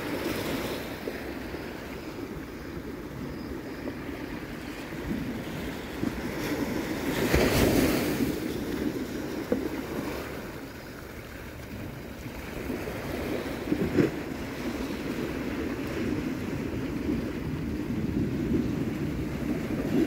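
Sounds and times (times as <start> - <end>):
ocean surf washing on beach: 0.0 - 20.0
wind buffeting microphone: 0.0 - 20.0.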